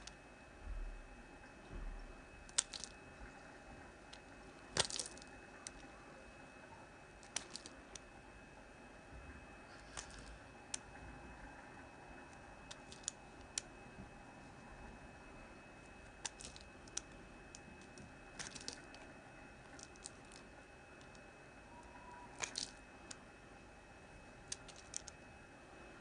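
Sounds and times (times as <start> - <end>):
faint high hum: 0.0 - 26.0.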